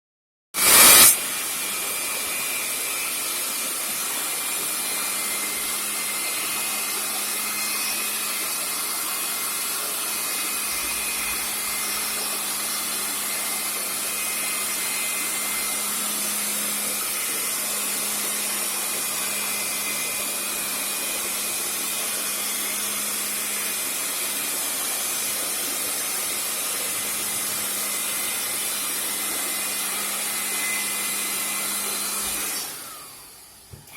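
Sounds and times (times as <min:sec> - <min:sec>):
machine motor hissing and humming: 0:03.4 - 0:33.9.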